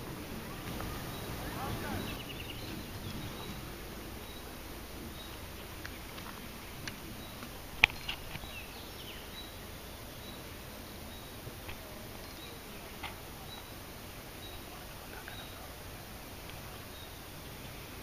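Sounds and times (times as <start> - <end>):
bird calls: 0.0 - 18.0
faint steady hiss: 0.0 - 18.0.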